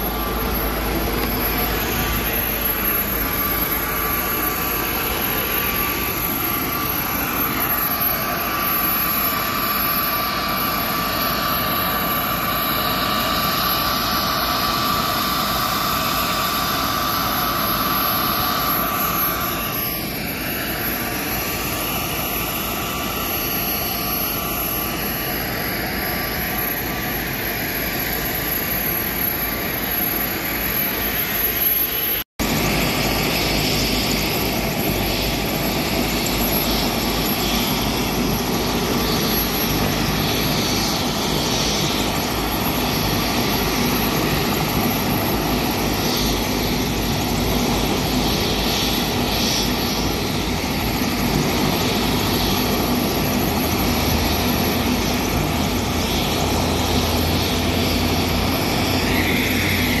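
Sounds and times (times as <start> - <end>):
helicopter turbine engine running: 0.0 - 60.0.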